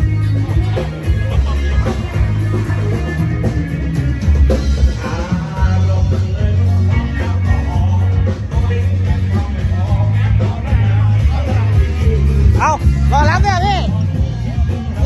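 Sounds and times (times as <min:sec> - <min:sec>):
bass line: 0:00.0 - 0:15.0
electric guitar: 0:00.0 - 0:15.0
live rock band playing: 0:00.0 - 0:15.0
person singing: 0:00.0 - 0:15.0.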